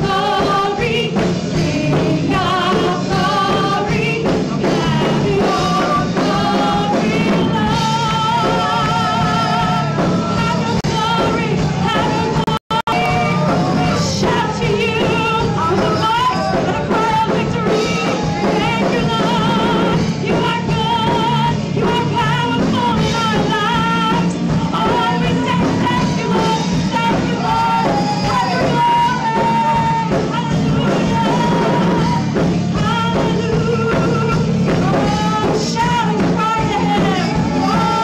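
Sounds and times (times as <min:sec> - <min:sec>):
woman singing lead: 0:00.0 - 0:38.0
women singing backing vocals: 0:00.0 - 0:38.0.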